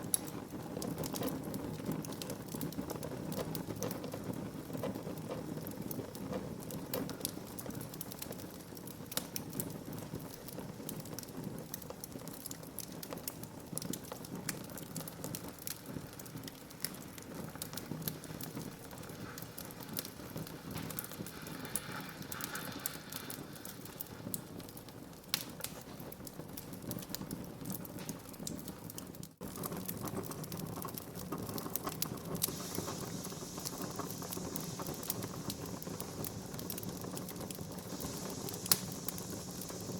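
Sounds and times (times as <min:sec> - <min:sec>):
hiss of flames: 0:00.0 - 0:39.9
wood fire crackling and popping: 0:00.0 - 0:39.9.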